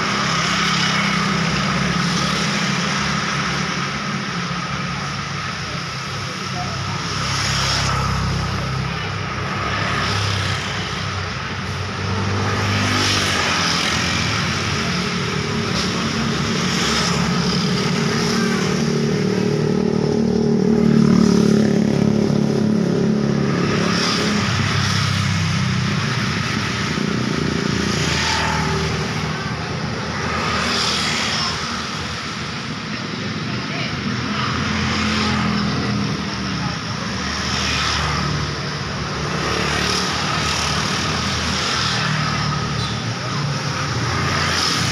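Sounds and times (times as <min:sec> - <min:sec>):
vehicles passing: 0:00.0 - 0:44.9.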